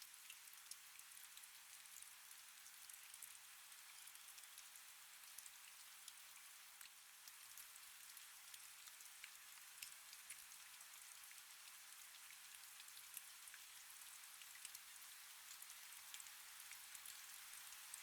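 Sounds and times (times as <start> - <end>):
faint steady rain: 0.0 - 18.0
raindrops ticking on a surface: 0.0 - 18.0.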